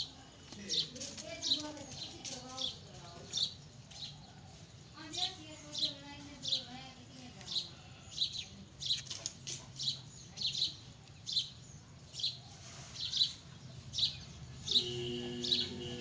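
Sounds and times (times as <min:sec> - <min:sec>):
small bird chirping: 0:00.0 - 0:15.9.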